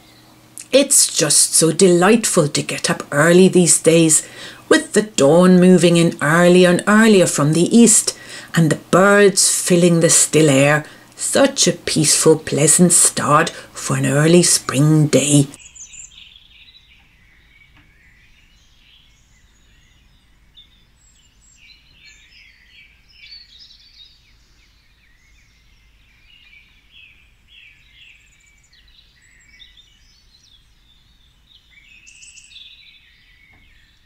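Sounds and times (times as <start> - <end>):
faint songbirds chirping: 0.0 - 34.0.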